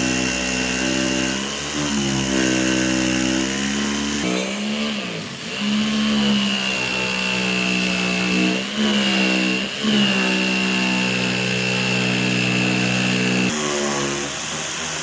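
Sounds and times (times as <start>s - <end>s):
power tool motor whining: 0.0s - 15.0s.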